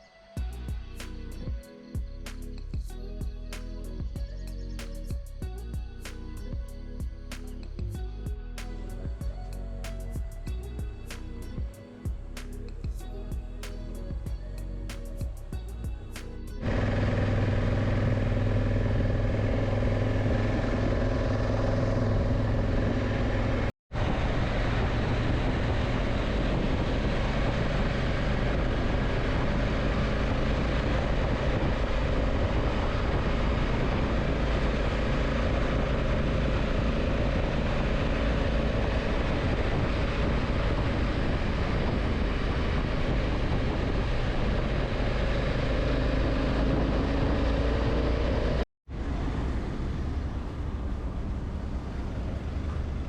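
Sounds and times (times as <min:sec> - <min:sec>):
heavy wind rush: 0:00.0 - 0:53.0
motorcycle engine drone: 0:00.4 - 0:53.0.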